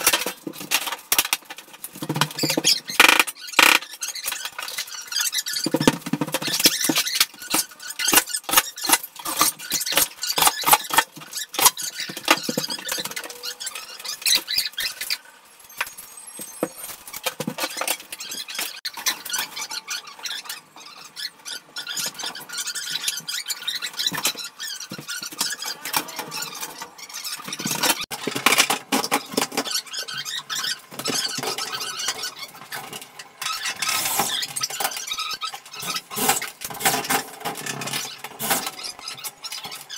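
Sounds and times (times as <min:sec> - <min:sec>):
metal on metal squeaks: 0:02.3 - 0:39.9.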